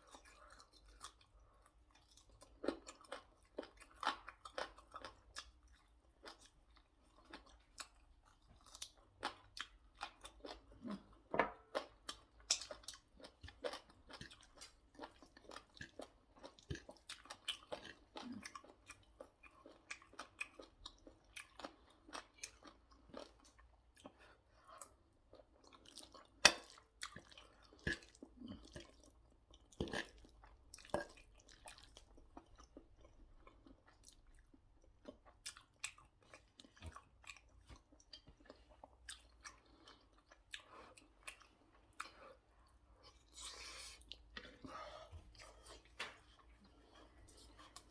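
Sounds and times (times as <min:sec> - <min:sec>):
person chewing and crunching food: 0:00.0 - 0:47.9.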